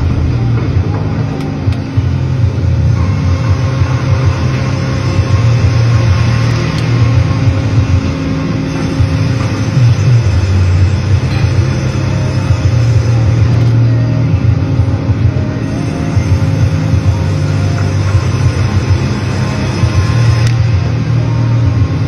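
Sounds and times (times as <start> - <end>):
sawmill machine drone: 0.0 - 22.0.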